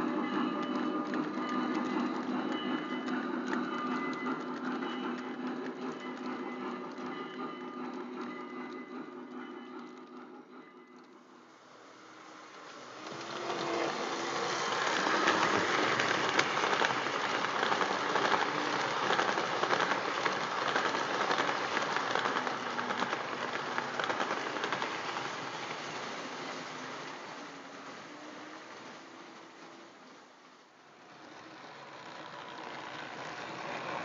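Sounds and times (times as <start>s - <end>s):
model train wheels clattering: 0.0s - 11.3s, 12.6s - 28.1s, 31.2s - 34.0s.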